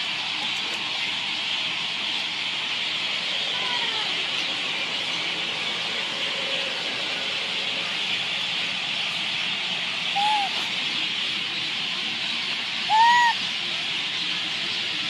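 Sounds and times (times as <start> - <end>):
steady high hiss: 0.0 - 15.0
infant monkey coo call: 2.1 - 15.0.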